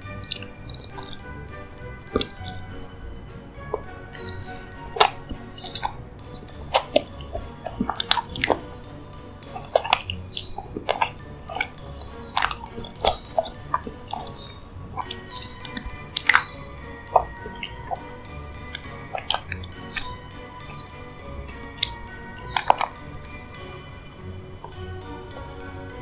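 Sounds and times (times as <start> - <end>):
soft background music: 0.0 - 26.0
chewing soft dessert: 0.1 - 25.5
sharp mouth clicks: 0.2 - 1.3, 2.0 - 25.2.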